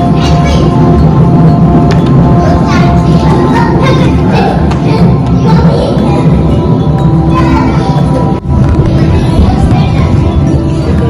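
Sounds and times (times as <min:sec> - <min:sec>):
background music with jingling percussion: 0:00.0 - 0:11.0.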